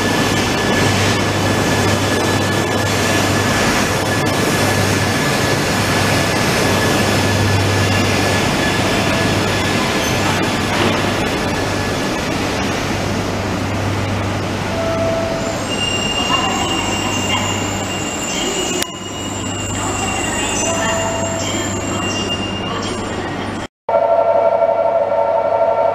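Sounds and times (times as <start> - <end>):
train wheels rumbling: 0.0 - 23.4.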